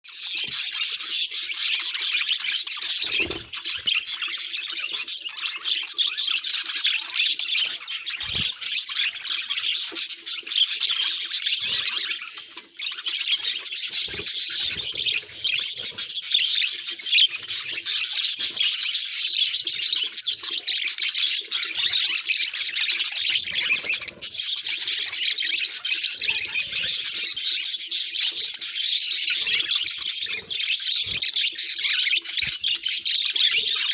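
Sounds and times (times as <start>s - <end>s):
budgerigars chattering and warbling: 0.1s - 33.9s.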